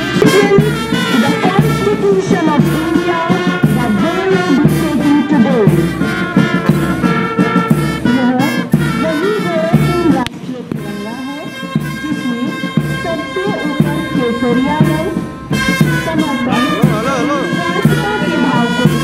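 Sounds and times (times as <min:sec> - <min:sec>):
bass drum beat: 0:00.0 - 0:19.0
brass band playing march: 0:00.0 - 0:19.0.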